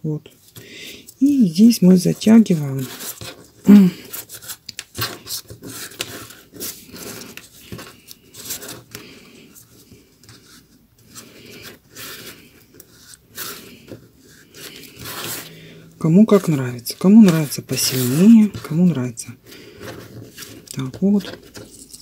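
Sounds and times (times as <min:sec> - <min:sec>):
paper tubes rubbing and crackling: 0:00.3 - 0:22.0.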